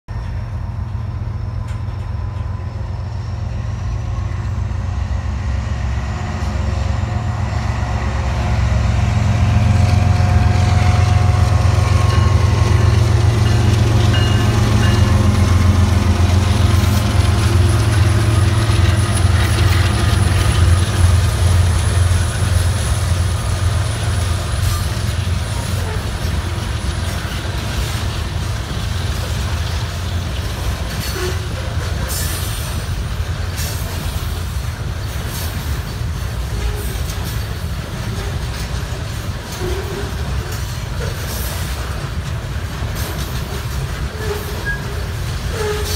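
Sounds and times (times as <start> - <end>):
diesel locomotive engine drone: 0.1 - 45.9
freight cars rolling: 8.2 - 45.9.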